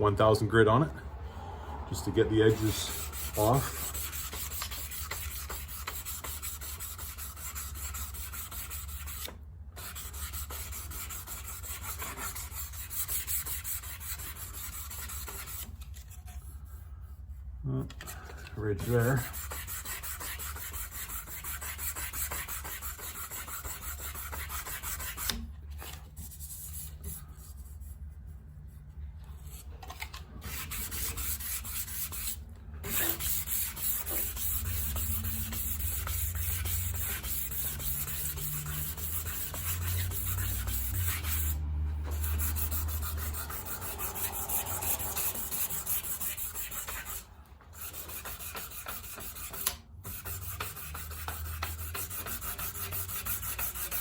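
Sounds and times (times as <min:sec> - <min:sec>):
sandpaper rubbing strokes: 0:02.0 - 0:16.9, 0:18.6 - 0:28.3, 0:30.4 - 0:54.0.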